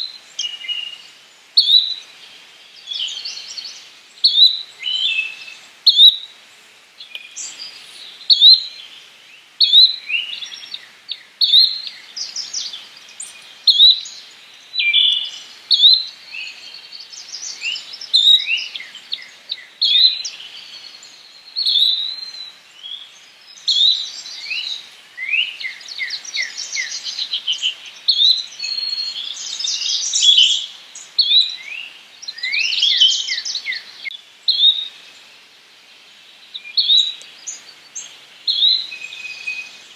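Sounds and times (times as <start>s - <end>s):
birds chirping and trilling: 7.0s - 39.9s.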